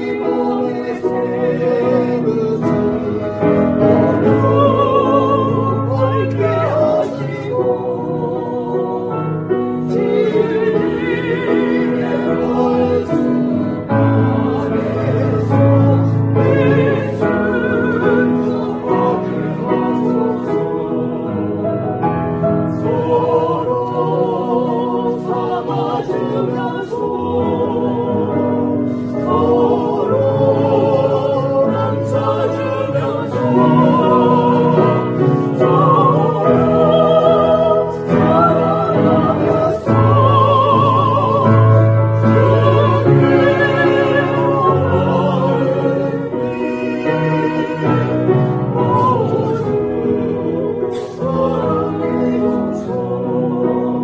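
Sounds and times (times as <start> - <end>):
vocal quartet singing a hymn: 0.0 - 54.0.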